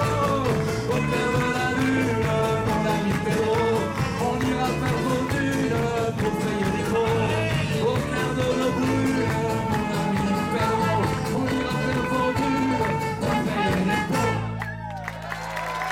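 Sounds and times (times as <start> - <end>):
man singing: 0.0 - 14.5
live band music: 0.0 - 14.9.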